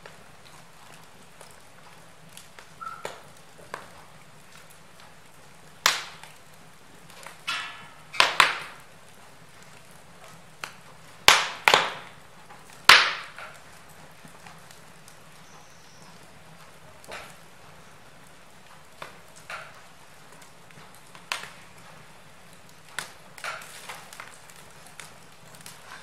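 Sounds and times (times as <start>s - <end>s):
burning logs popping: 0.0s - 26.0s
wood fire crackling: 0.0s - 26.0s.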